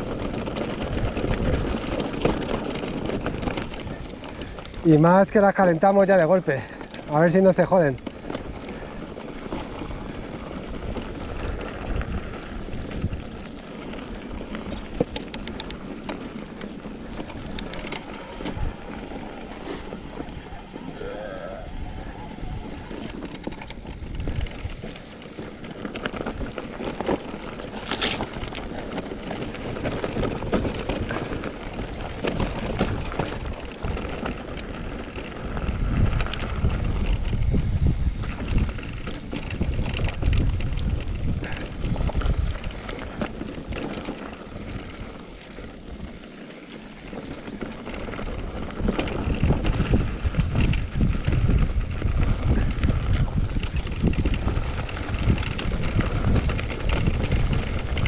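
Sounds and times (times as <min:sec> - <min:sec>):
bike rattling over rocks: 0:00.0 - 0:58.0
wind buffeting microphone: 0:00.0 - 0:58.0.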